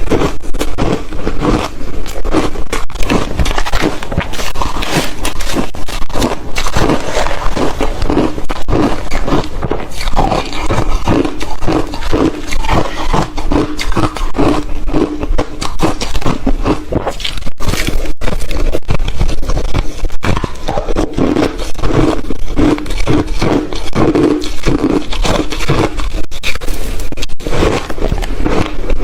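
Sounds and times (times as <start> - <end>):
ice being chewed: 0.0 - 29.0.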